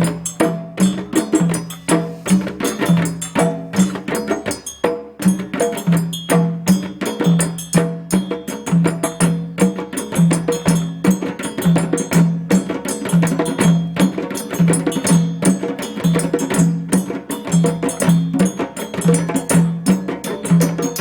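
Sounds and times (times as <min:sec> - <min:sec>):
djembe drumming: 0:00.0 - 0:21.0.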